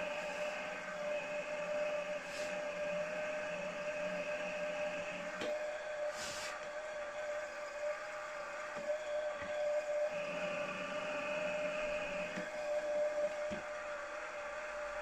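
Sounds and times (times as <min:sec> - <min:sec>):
milling machine motor whine: 0:00.0 - 0:15.0.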